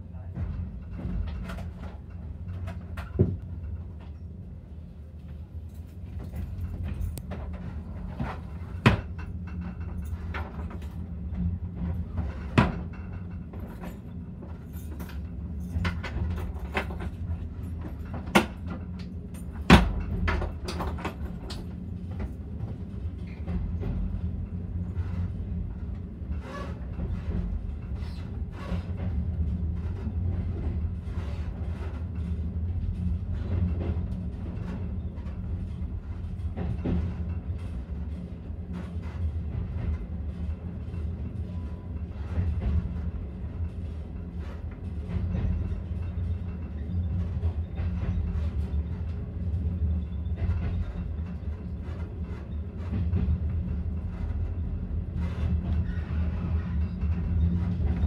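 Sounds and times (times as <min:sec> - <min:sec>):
train carriage rumbling: 0:00.0 - 0:58.0.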